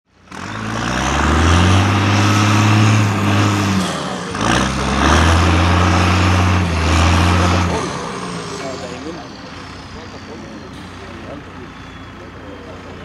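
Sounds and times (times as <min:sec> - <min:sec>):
truck diesel engine revving: 0:00.1 - 0:13.0.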